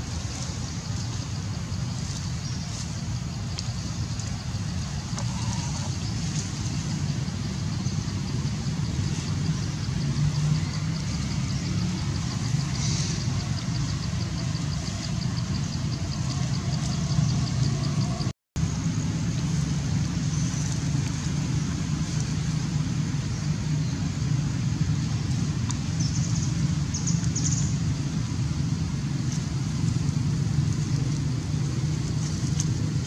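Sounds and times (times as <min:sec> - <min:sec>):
low engine-like hum: 0:00.0 - 0:33.0.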